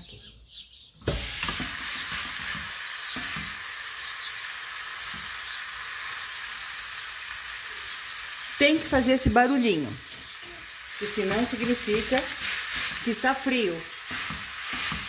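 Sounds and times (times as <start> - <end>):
meat sizzling in a frying pan: 1.0 - 15.0.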